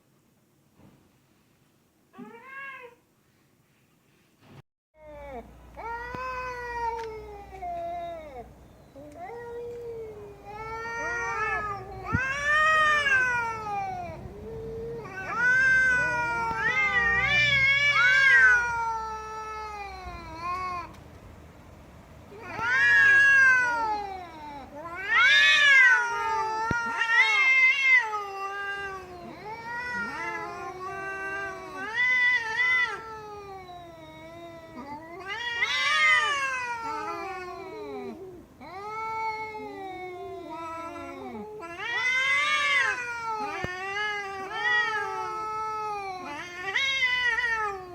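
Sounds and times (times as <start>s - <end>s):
cat meowing and yowling: 2.2s - 3.0s, 5.0s - 21.0s, 22.3s - 47.9s.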